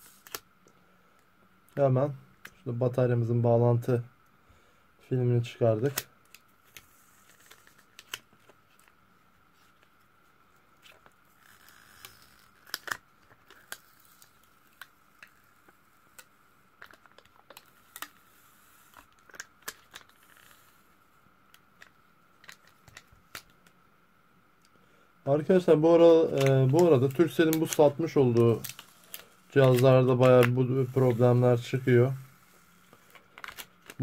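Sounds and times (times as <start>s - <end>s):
faint steady whine: 0.0s - 34.0s.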